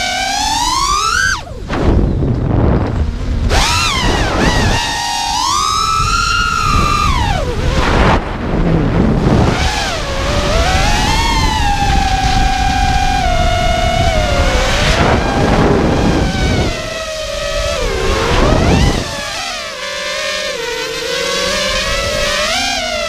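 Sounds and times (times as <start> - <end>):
drone propellers whining: 0.0 - 23.0
wind on microphone: 0.0 - 23.0.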